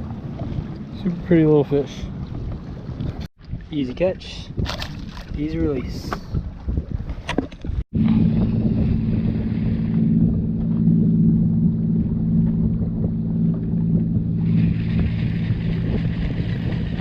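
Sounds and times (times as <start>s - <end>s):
boat engine humming: 0.0s - 3.6s, 6.3s - 17.0s
wind noise: 2.1s - 17.0s.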